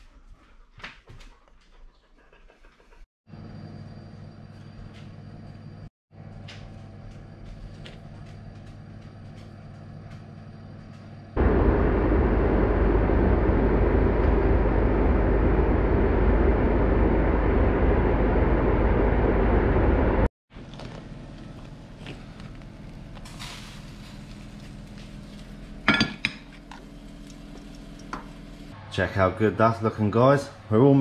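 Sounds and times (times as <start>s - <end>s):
electric hob hum: 3.3s - 28.9s.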